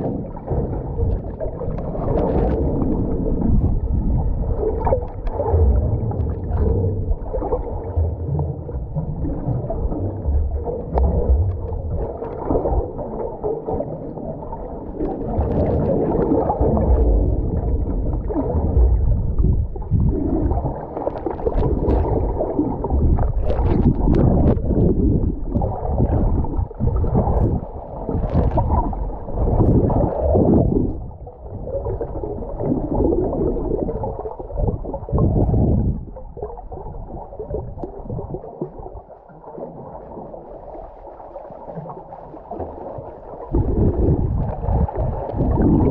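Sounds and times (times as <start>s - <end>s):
muffled underwater water sloshing: 0.0s - 45.9s.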